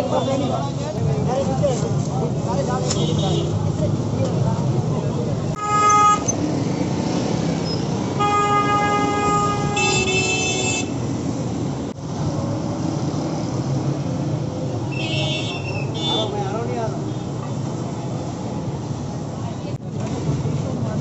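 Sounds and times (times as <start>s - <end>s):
busy street traffic: 0.0s - 21.0s.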